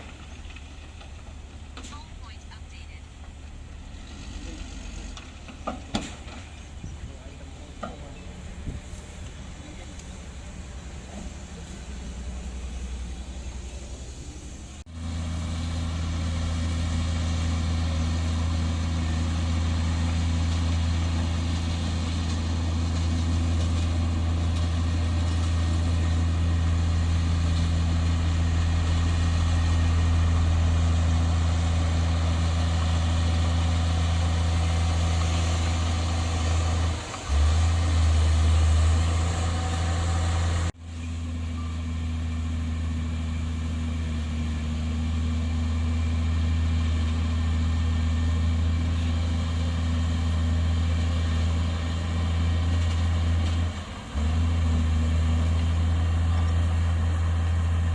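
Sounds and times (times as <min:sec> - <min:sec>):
heavy diesel engine humming: 0:00.0 - 0:57.9.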